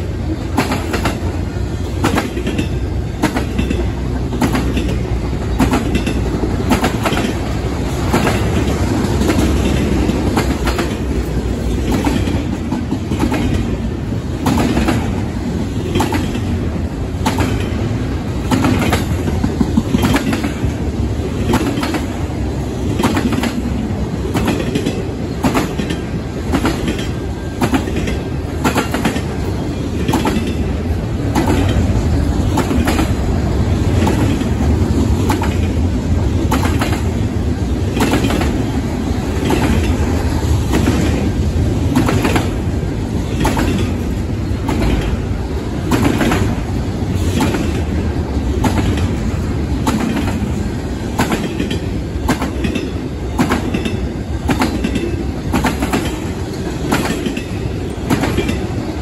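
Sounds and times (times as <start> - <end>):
freight train rumble: 0.0 - 59.0
wheels clacking on rail joints: 0.0 - 59.0.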